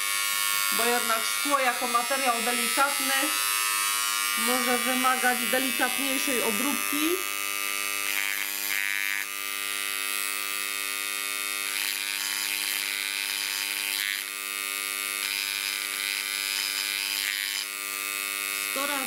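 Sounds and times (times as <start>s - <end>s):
engraver buzzing: 0.0s - 19.0s.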